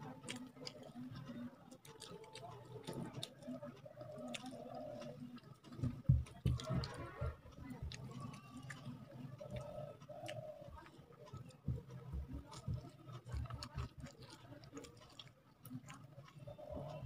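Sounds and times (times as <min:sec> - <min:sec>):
fingers squelching rice: 0:00.0 - 0:05.7, 0:06.4 - 0:17.0
chewing: 0:00.0 - 0:17.0.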